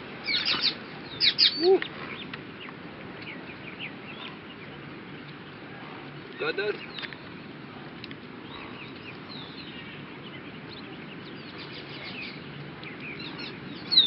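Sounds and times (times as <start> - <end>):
outdoor background noise: 0.0 - 14.0
small birds chirping: 0.2 - 14.0.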